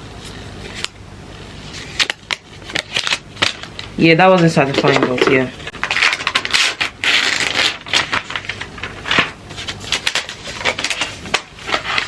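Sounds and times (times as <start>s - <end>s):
packaging crinkling and rustling: 1.8s - 12.0s.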